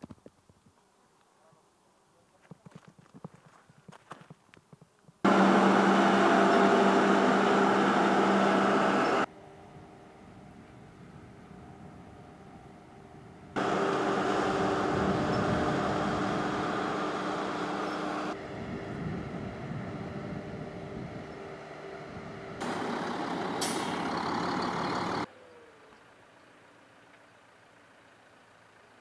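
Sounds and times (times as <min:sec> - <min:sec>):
harvester engine and machinery: 0:05.2 - 0:29.0.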